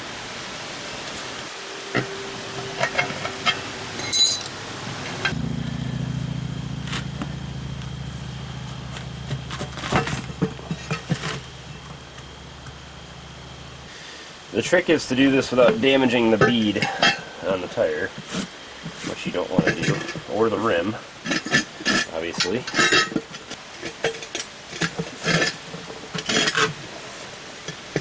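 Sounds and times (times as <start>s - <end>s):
steady low hum: 0.0s - 28.0s
metal tools clinking on wheel rim: 1.9s - 13.9s, 15.0s - 20.6s, 21.2s - 26.8s.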